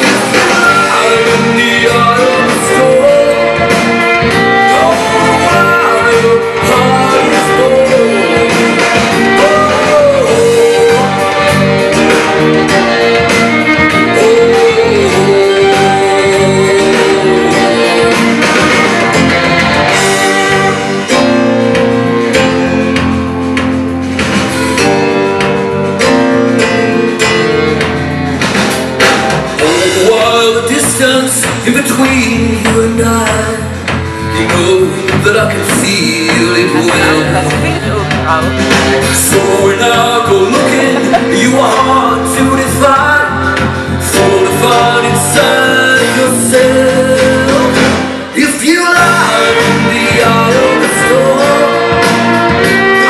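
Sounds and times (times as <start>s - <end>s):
violins playing melody: 0.0s - 24.0s, 34.1s - 53.0s
folk-pop band music: 0.0s - 53.0s.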